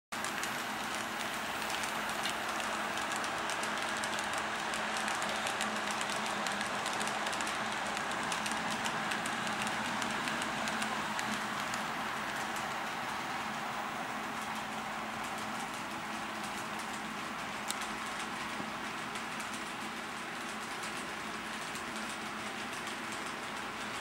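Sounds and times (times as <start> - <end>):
model train rolling on track: 0.2 - 24.0.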